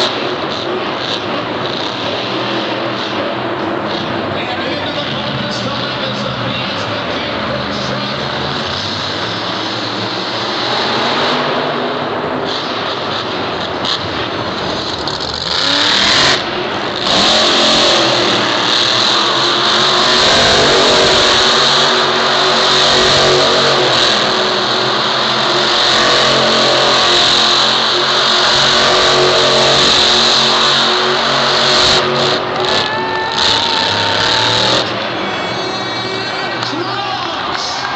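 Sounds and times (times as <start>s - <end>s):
truck engine revving loudly: 0.0s - 37.9s.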